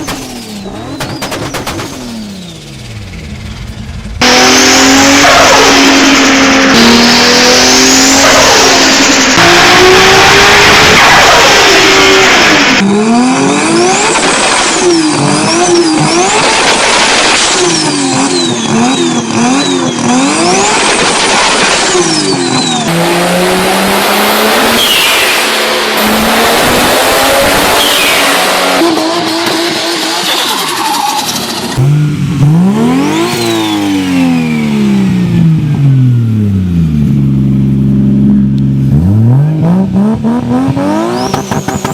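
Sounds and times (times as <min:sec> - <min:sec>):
car engines revving hard: 0:00.0 - 0:41.9.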